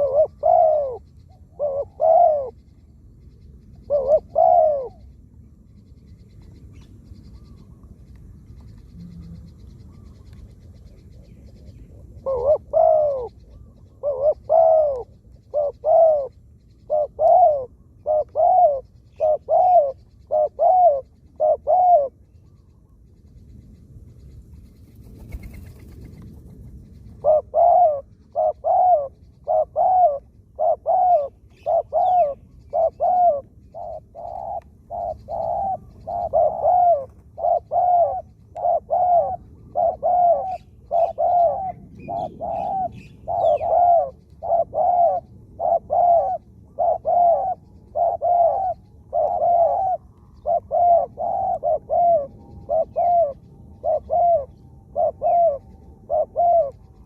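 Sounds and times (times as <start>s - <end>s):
dove cooing: 0.0s - 2.8s, 3.4s - 5.2s, 8.5s - 22.9s, 25.0s - 57.0s.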